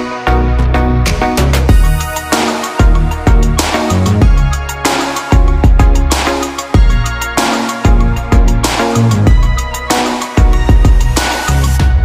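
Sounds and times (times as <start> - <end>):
electronic music with drum beat: 0.0 - 12.0.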